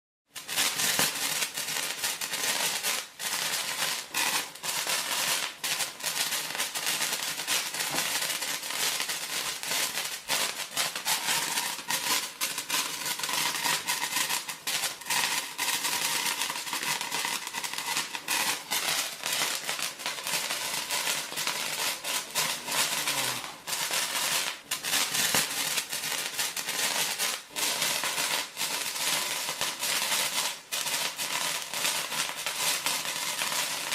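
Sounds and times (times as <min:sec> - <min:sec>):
sparkler fizzing and crackling: 0:00.3 - 0:33.9.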